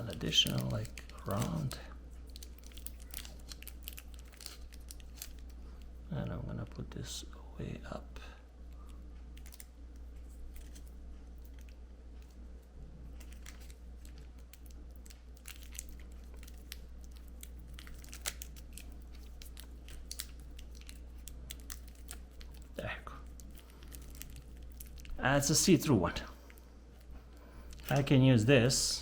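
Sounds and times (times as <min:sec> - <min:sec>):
plastic tape crinkling: 0:00.0 - 0:06.0, 0:08.7 - 0:25.7, 0:26.4 - 0:29.0.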